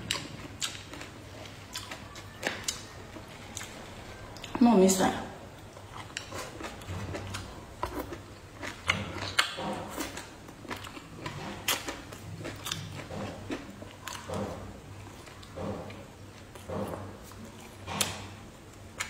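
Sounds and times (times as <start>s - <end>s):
crunchy chewing: 0.0s - 4.6s, 5.6s - 19.0s.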